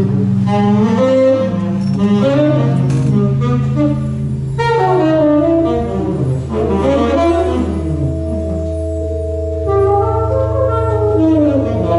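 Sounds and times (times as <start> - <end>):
saxophone playing: 0.0 - 11.9
steady low drone: 0.0 - 11.9.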